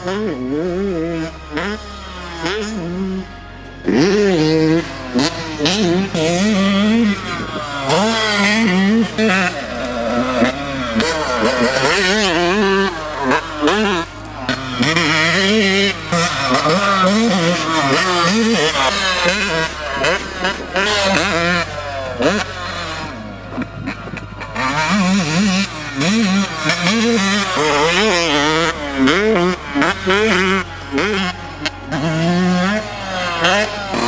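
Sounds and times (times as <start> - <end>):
motocross engine revving: 0.0 - 34.0.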